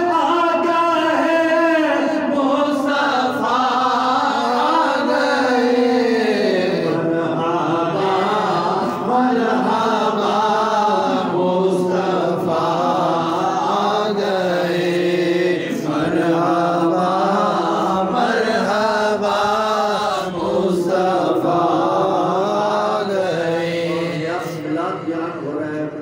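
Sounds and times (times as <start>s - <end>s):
man chanting into a microphone: 0.0s - 26.0s.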